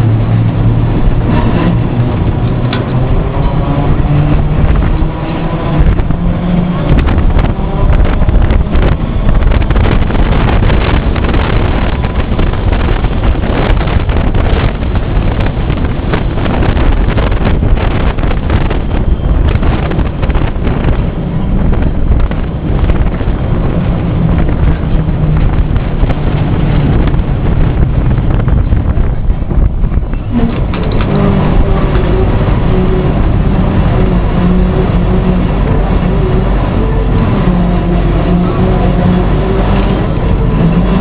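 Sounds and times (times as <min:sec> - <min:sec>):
low hum: 0:00.0 - 0:41.0
tram wheels rumbling on rails: 0:00.0 - 0:41.0
wind on microphone: 0:00.0 - 0:41.0.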